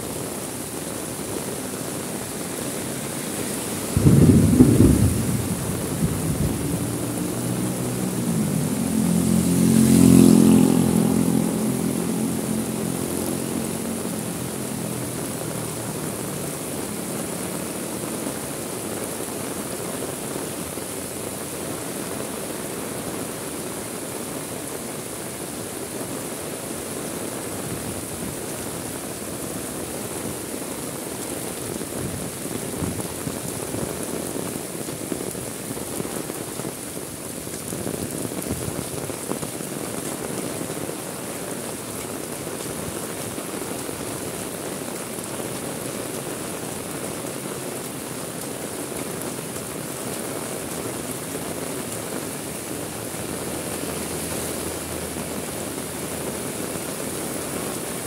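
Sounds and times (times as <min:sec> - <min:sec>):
heavy rain falling: 0:00.0 - 0:58.0
vehicle passing on wet road: 0:00.0 - 0:58.0.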